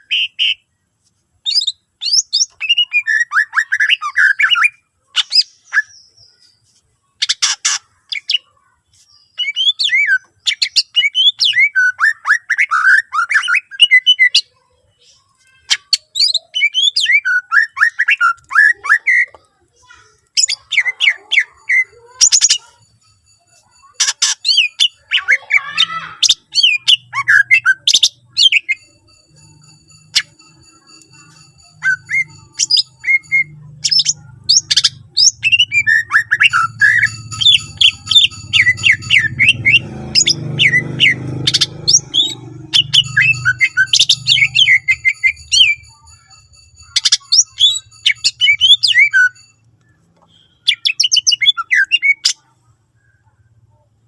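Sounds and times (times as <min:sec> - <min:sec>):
bird chirping and whistling: 0:00.0 - 0:00.6, 0:01.4 - 0:06.1, 0:09.4 - 0:14.4, 0:15.7 - 0:19.4, 0:20.3 - 0:52.4.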